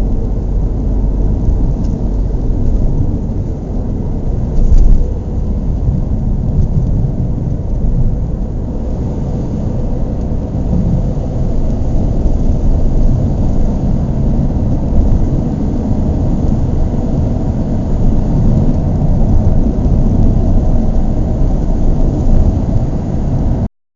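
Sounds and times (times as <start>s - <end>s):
car engine running: 0.0s - 23.7s.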